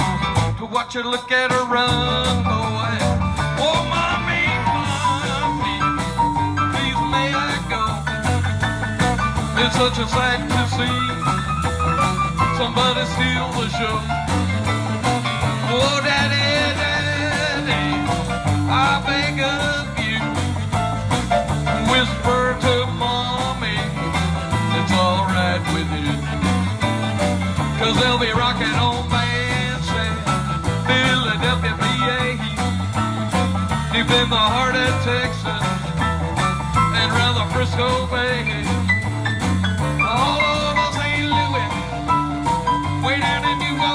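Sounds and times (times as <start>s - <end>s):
rock and roll band playing: 0.0s - 43.9s.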